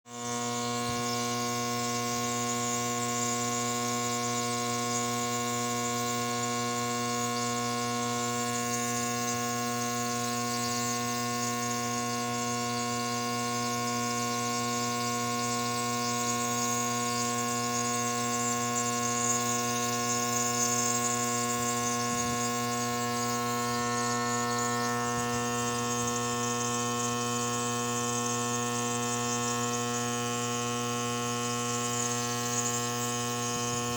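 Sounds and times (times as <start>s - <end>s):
electric motor hum: 0.1s - 33.9s.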